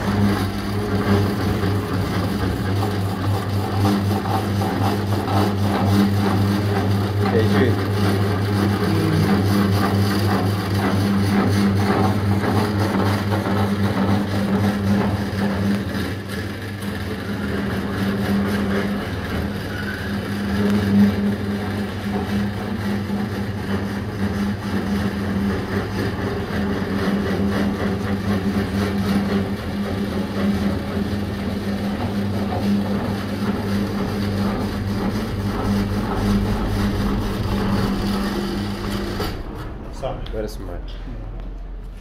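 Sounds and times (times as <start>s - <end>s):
shredding machine humming: 0.0s - 42.0s.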